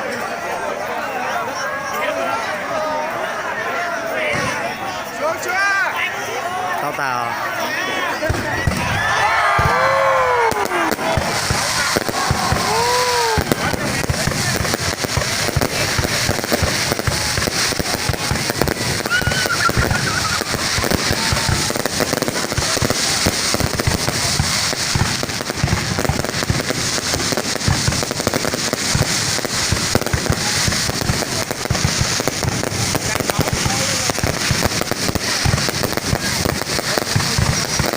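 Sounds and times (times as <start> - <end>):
fireworks bangs and crackles: 0.0 - 37.9
crackling hiss: 7.4 - 37.9.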